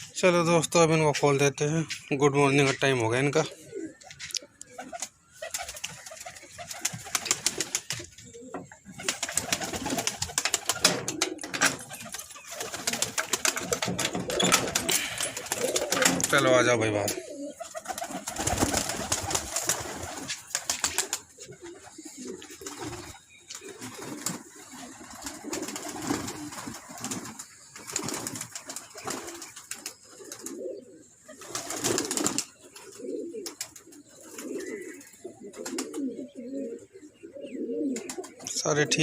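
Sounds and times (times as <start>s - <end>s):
pigeons cooing: 2.6s - 39.0s.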